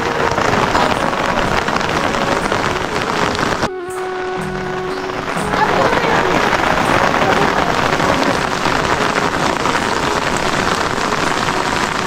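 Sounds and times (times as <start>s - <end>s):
heavy rain pattering: 0.0s - 12.0s.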